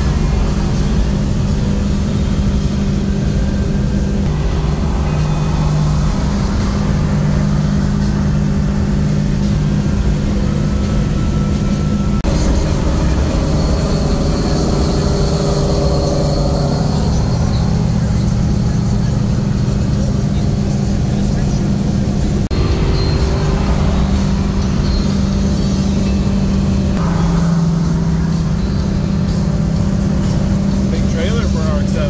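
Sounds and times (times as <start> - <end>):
car engine droning: 0.0 - 32.0
road and wind noise: 0.0 - 32.0.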